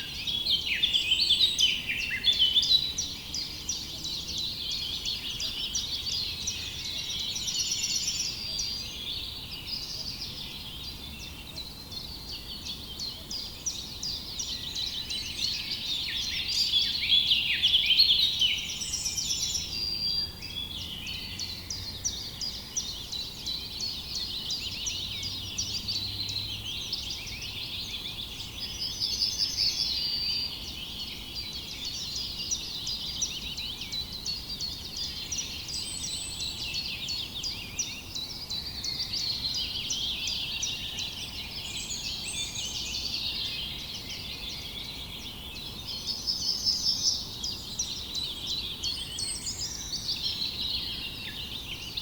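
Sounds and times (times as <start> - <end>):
songbirds chirping and singing: 0.0 - 52.0.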